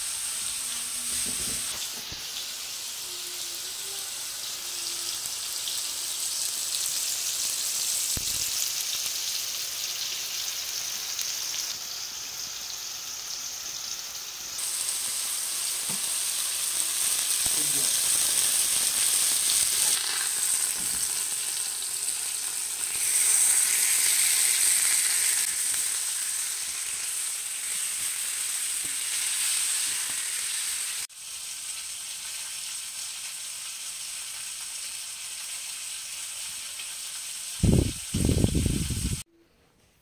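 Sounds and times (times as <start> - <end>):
chicken sizzling on a griddle: 0.0 - 39.3.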